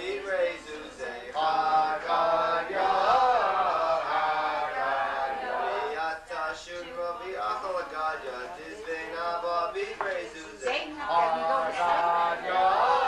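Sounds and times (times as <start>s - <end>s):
voices chanting a song: 0.0s - 13.0s.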